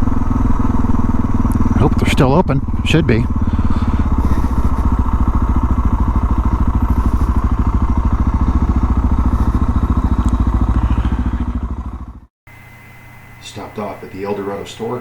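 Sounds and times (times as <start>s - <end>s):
motorcycle engine thumping: 0.0s - 12.3s.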